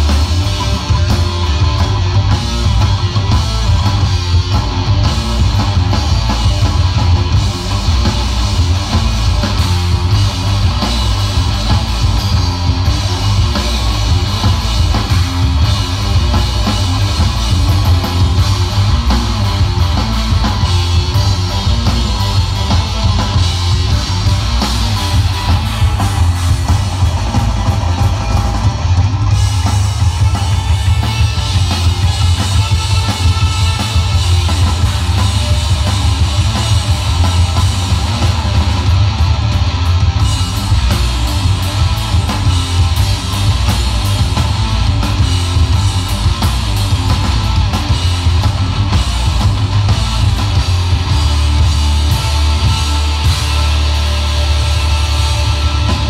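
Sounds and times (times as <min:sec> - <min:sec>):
drum kit: 0:00.0 - 0:56.0
electric bass: 0:00.0 - 0:56.0
electric guitars: 0:00.0 - 0:56.0.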